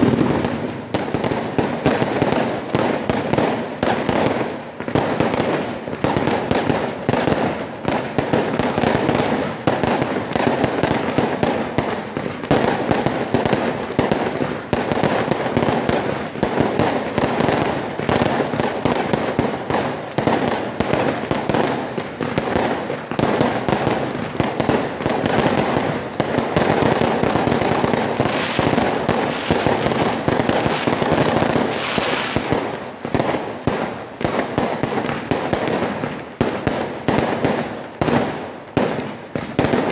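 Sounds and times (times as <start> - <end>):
fireworks bursts and bangs: 0.0 - 39.9
fireworks crackling: 0.0 - 39.9.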